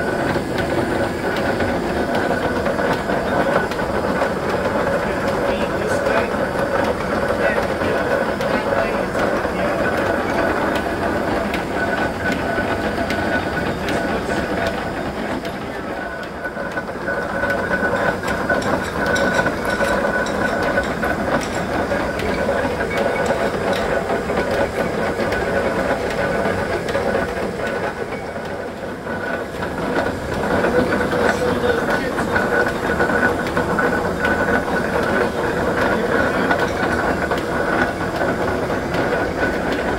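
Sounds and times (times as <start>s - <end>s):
lathe gearing clatter: 0.0s - 39.9s
lathe whine: 0.0s - 39.9s.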